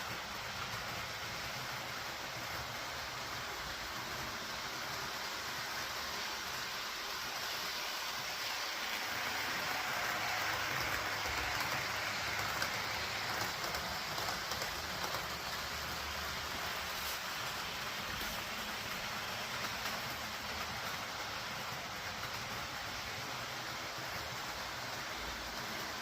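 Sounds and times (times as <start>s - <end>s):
train running on track: 0.0s - 26.0s.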